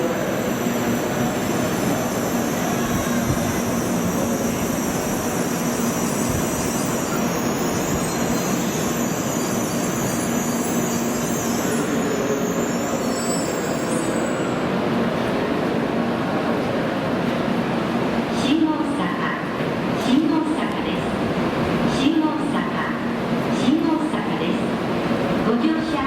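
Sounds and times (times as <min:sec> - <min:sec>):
train slowing with rushing hiss: 0:00.0 - 0:26.0.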